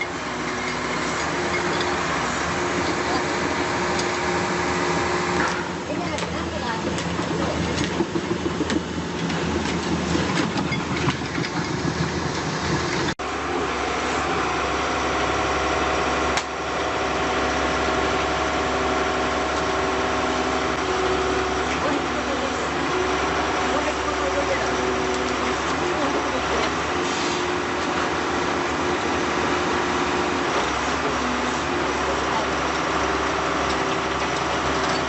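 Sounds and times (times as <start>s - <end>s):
heavy machine engine running: 0.0s - 35.0s.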